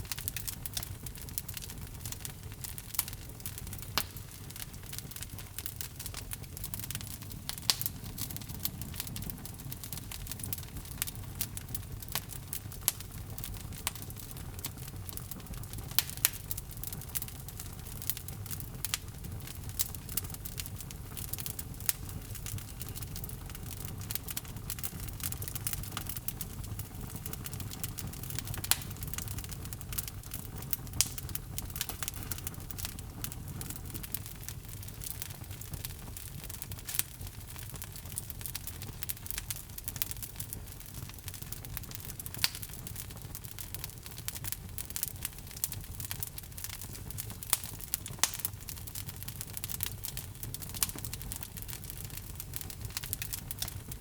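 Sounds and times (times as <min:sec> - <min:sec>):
logs crackling and popping: 0:00.0 - 0:54.0
low rumble of flames: 0:00.0 - 0:54.0.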